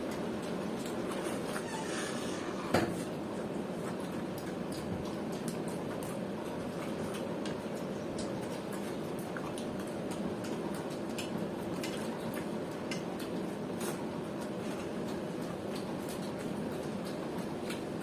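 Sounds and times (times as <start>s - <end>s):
chewing: 0.0s - 18.0s
steady background noise: 0.0s - 18.0s
wet squelches of hands eating rice: 3.0s - 18.0s.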